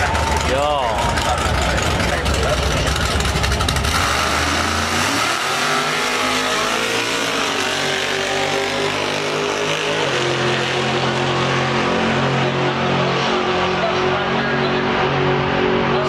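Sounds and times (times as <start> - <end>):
drag racing engines accelerating: 0.0 - 16.0.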